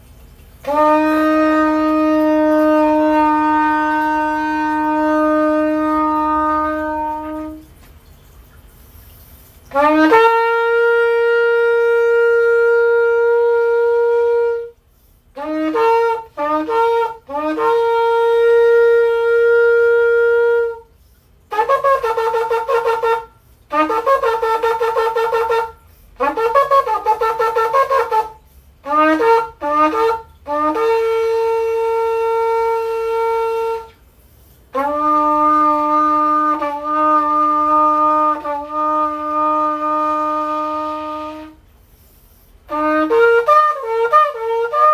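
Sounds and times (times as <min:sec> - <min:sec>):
horn blasts: 0:00.6 - 0:07.9, 0:09.6 - 0:44.9.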